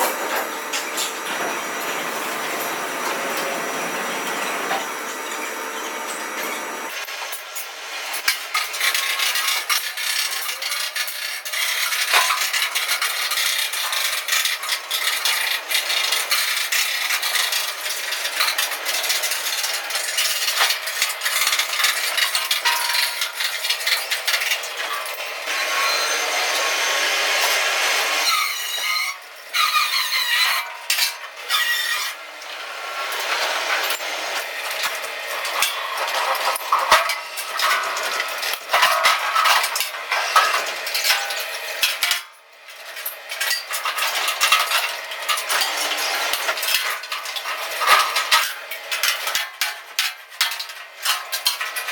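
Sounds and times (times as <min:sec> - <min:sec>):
crackling scraping metalworking hiss: 0:00.0 - 0:51.9.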